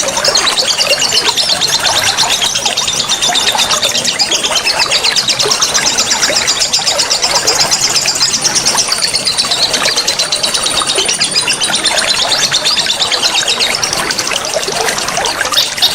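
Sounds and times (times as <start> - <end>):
running water: 0.0 - 15.9
songbird singing rapid high notes: 0.0 - 15.9.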